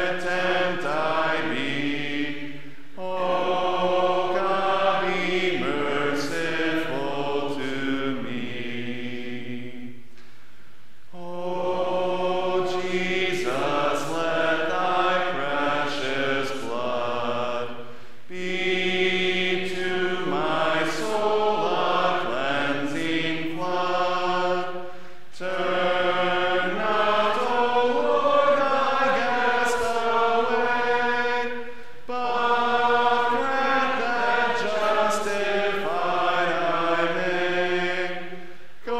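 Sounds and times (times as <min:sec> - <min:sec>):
congregation singing unaccompanied: 0:00.0 - 0:10.2, 0:11.1 - 0:38.9.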